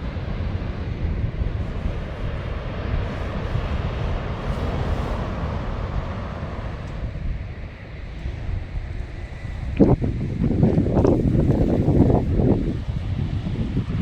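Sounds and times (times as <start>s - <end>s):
sea water rushing: 0.0s - 14.0s
wind buffeting microphone: 0.0s - 14.0s.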